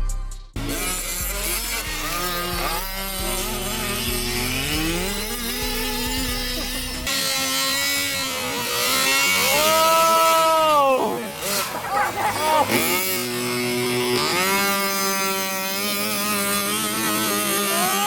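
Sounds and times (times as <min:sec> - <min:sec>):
car engine revving: 0:00.6 - 0:18.0.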